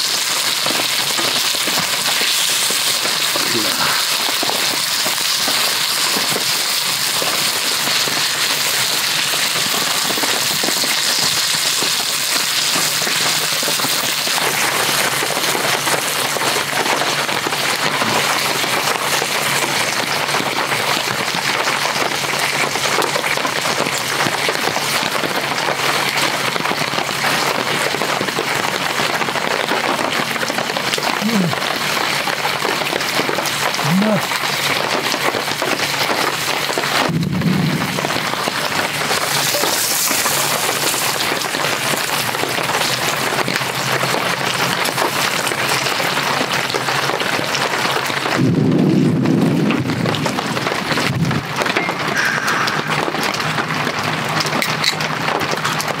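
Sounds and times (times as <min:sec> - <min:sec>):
meat sizzling in a frying pan: 0:00.0 - 0:48.4
heavy rain on a tarp: 0:00.0 - 0:56.0.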